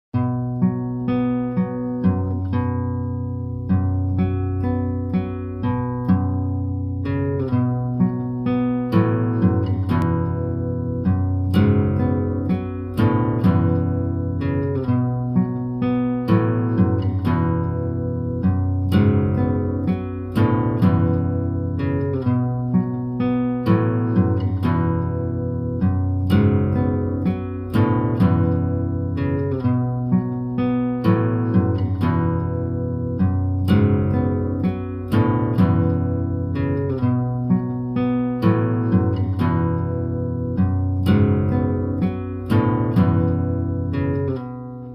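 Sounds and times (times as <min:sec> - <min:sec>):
plucked guitar melody: 0:00.1 - 0:44.9.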